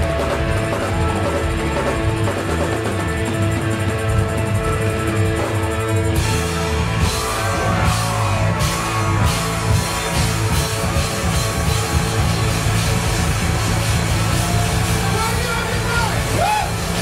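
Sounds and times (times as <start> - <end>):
drums and cymbals: 0.0 - 17.0
rock music with guitar and bass: 0.0 - 17.0.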